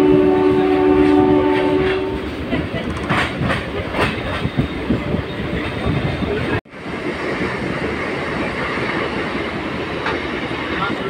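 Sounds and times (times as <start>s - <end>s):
train wheels clacking on rails: 0.6s - 11.0s.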